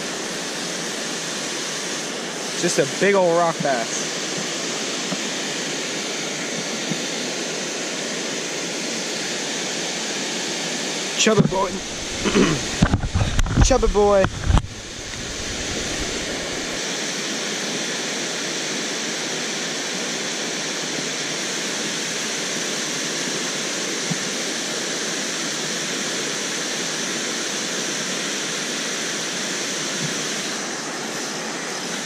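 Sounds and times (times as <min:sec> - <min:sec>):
water rushing over dam: 0:00.0 - 0:32.0.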